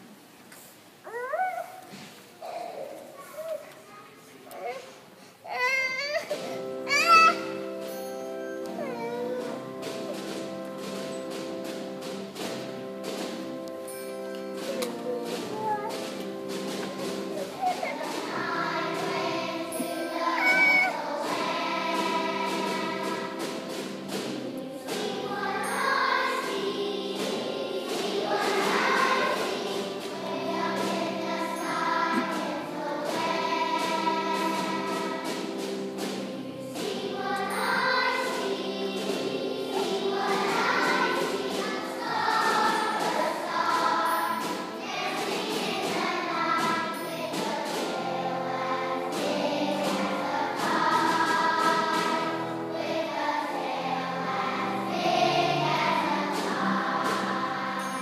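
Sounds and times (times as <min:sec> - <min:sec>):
children's choir singing: 0:05.5 - 0:58.0.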